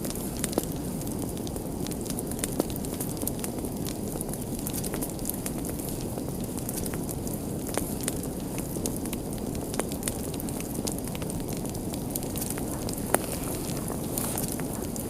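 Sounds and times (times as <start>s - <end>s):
fire crackling and popping: 0.0s - 15.0s
low rush of flames: 0.0s - 15.0s.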